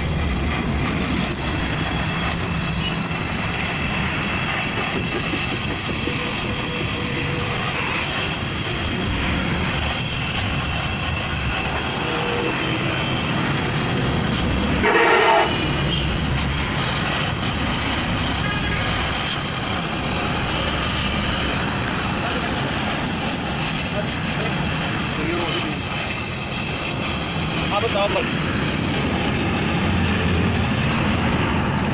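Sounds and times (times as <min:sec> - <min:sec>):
welding torch flame hissing: 0:00.0 - 0:31.9.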